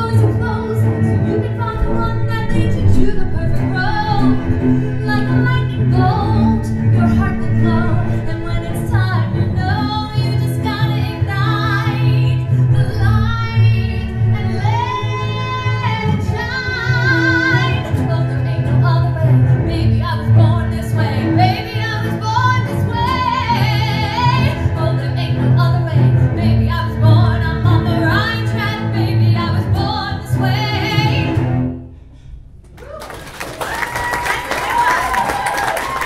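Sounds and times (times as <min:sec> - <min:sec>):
woman singing: 0:00.0 - 0:31.4
cello playing low line: 0:00.0 - 0:31.7.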